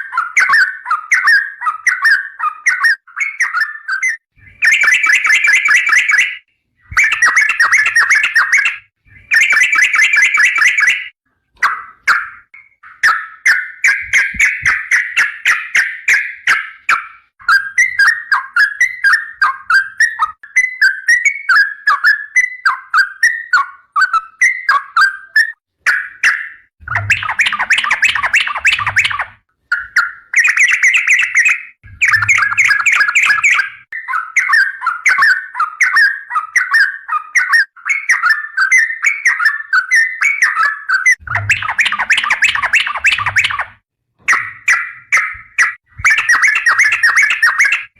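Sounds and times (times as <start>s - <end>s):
bulbul song: 0.0s - 47.9s.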